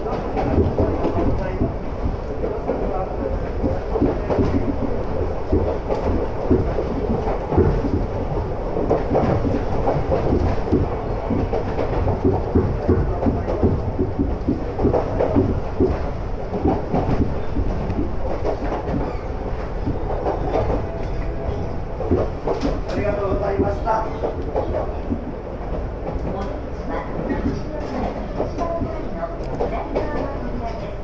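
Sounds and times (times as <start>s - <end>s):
train rumble: 0.0s - 31.0s
wheels clacking on track: 0.0s - 31.0s.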